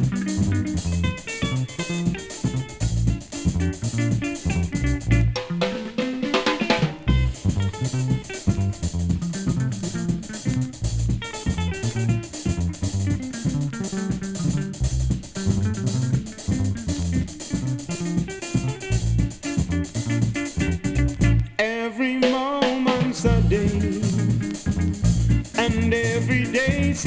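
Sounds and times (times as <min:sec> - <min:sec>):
drum kit: 0:00.0 - 0:21.6, 0:22.2 - 0:27.0
electric guitar melody: 0:00.0 - 0:21.9, 0:23.0 - 0:27.0
bass guitar: 0:00.0 - 0:27.0.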